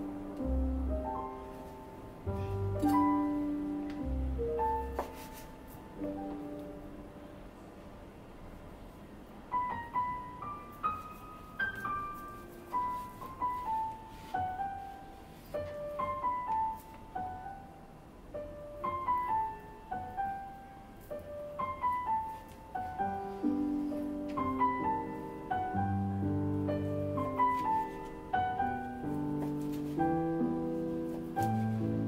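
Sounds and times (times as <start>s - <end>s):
low piano chords: 0.0s - 32.0s
piano melody: 0.0s - 32.0s.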